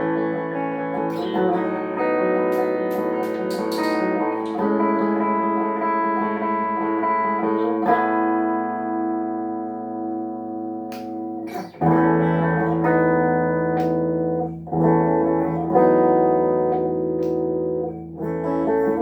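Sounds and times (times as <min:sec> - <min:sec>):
guitar chords ringing: 0:00.0 - 0:19.0.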